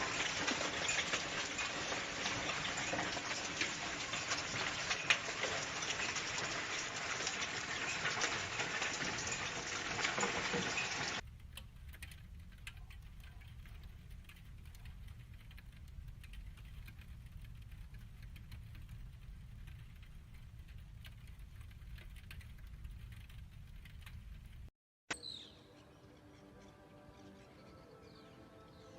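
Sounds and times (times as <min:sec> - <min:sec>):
light ticks of stones landing: 0:00.0 - 0:24.7
small stones pattering down: 0:00.0 - 0:24.7.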